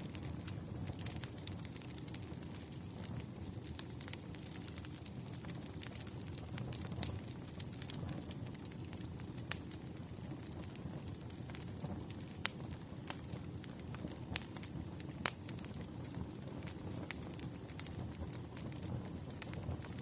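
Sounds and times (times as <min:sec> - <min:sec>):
low rush of burning logs: 0:00.0 - 0:20.0
sharp pops of fire: 0:00.0 - 0:20.0.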